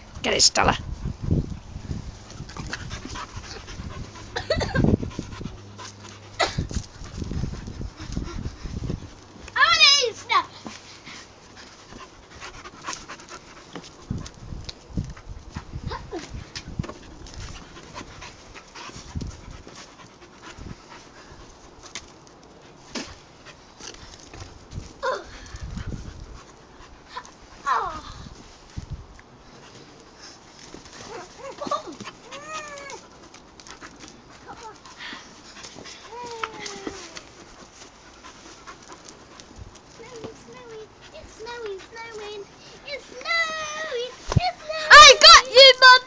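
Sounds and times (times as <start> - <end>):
dog panting: 0.6 - 24.6, 25.4 - 27.7, 29.5 - 45.8.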